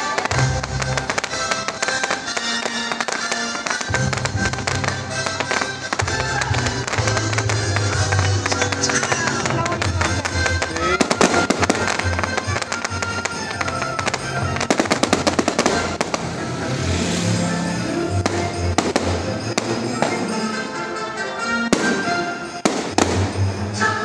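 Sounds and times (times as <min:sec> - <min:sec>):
fireworks crackling and popping: 0:00.0 - 0:23.8.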